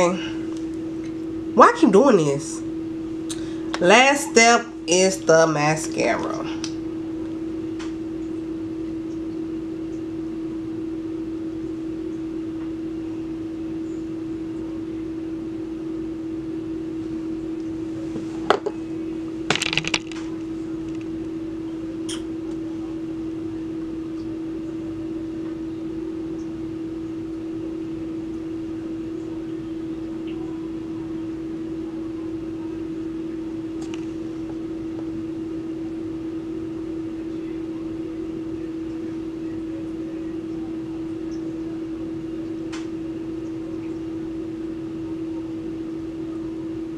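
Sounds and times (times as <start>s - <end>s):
low steady hum: 0.0s - 46.9s.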